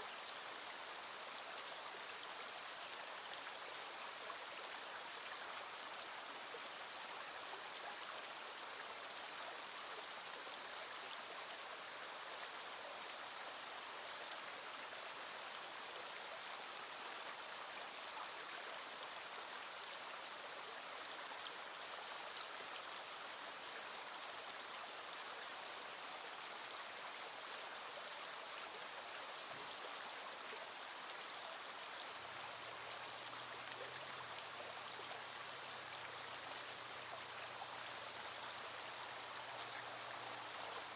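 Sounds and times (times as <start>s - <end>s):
mountain stream flowing: 0.0s - 40.9s.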